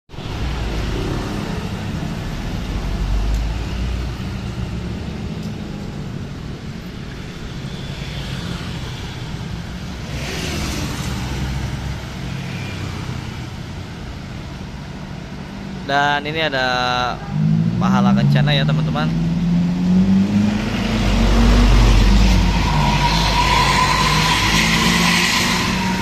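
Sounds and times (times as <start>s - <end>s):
road traffic engine rumble: 0.1s - 26.0s.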